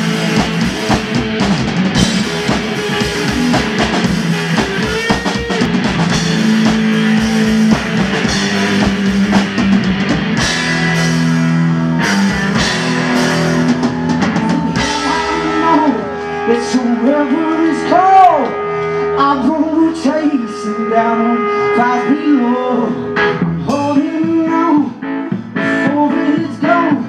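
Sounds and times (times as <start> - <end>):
drum kit: 0.0 - 20.1, 23.2 - 27.0
electric guitar: 0.0 - 27.0.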